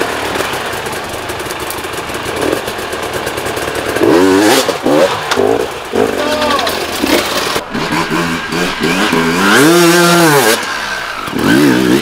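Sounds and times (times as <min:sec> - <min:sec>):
motorcycle engines running: 0:00.0 - 0:12.0
motorcycle revving: 0:00.0 - 0:12.0.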